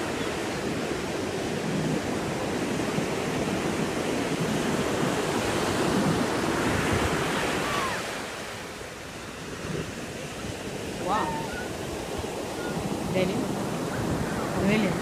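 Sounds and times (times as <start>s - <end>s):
ocean surf washing on shore: 0.0s - 15.0s
wind on microphone: 0.0s - 15.0s.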